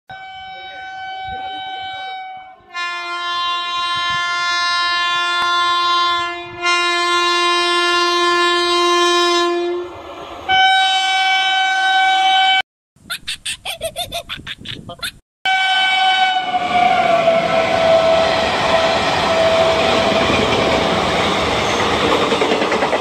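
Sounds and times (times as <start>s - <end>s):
train horn blasts: 0.1s - 12.6s, 15.5s - 21.7s.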